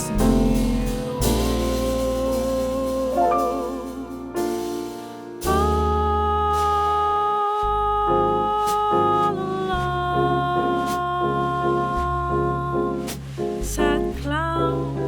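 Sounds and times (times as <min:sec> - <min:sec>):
jazz ballad with piano and bass: 0:00.0 - 0:15.0.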